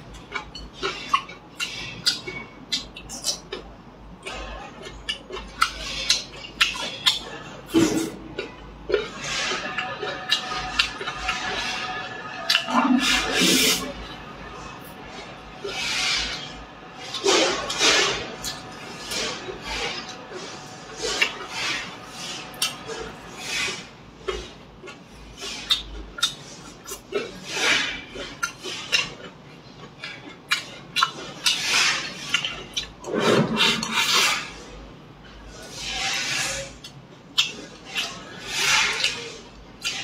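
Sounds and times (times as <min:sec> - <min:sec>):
chewing and lip-smacking: 0:00.0 - 0:34.6, 0:35.2 - 0:40.0.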